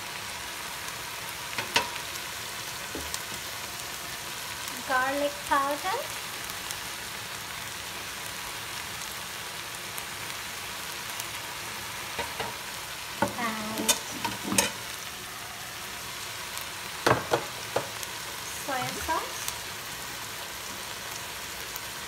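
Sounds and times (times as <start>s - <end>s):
vegetables sizzling in a frying pan: 0.0s - 22.0s.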